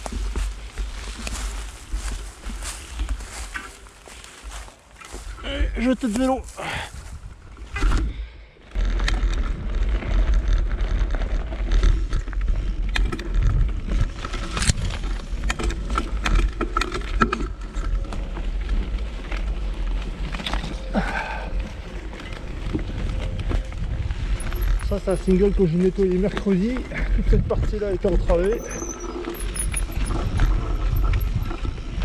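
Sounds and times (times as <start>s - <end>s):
mountain bike rattling on trail: 0.0s - 32.0s.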